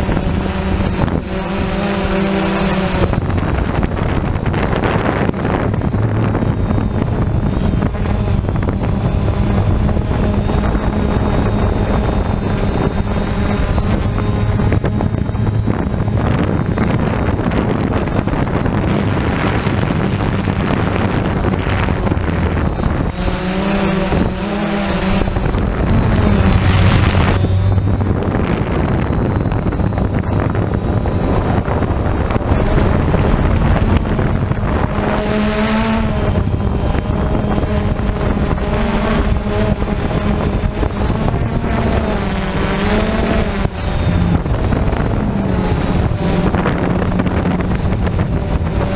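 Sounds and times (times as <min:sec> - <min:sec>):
drone propellers humming: 0:00.0 - 0:48.9
wind on microphone: 0:00.0 - 0:48.9.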